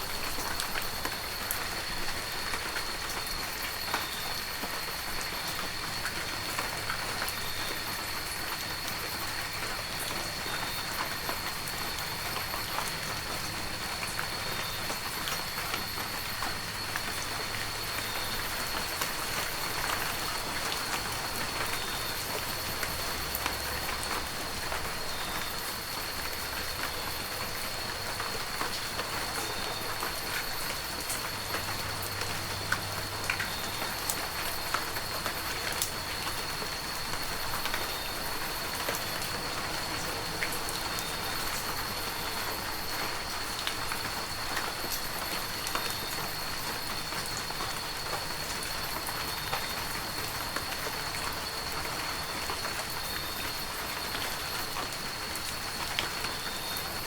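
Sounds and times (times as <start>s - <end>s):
heavy rain falling: 0.0s - 57.0s
raindrops ticking on surfaces: 0.0s - 57.0s.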